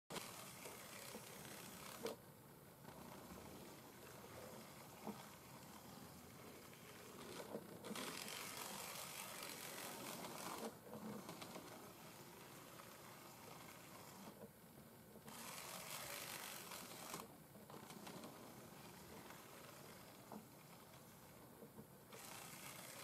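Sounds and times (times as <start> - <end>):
model train motor whirring: 0.1 - 2.2, 2.8 - 14.5, 15.2 - 23.0.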